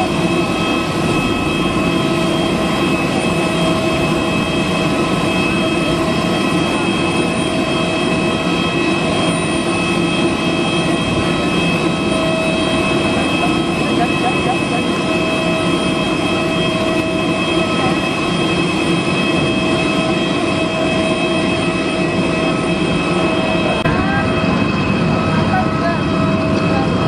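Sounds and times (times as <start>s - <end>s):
jet turbine whine: 0.0s - 27.0s.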